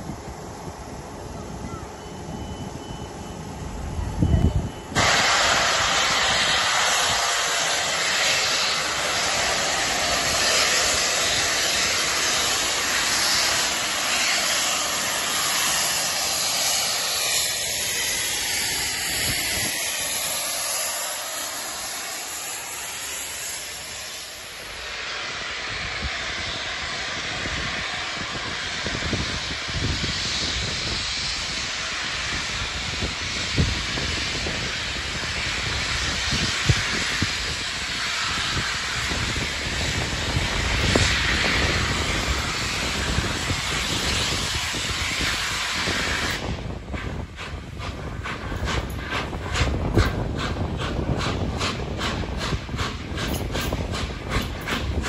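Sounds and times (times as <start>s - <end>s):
steam locomotive passing: 0.0s - 55.0s.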